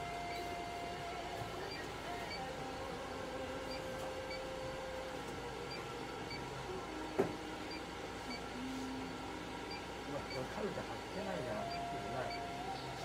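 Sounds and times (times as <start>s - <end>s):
equipment room hum: 0.0s - 13.0s.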